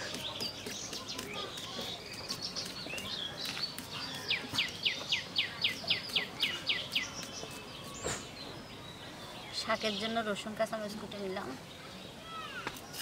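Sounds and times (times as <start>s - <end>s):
soft bird chirps: 0.0s - 13.0s.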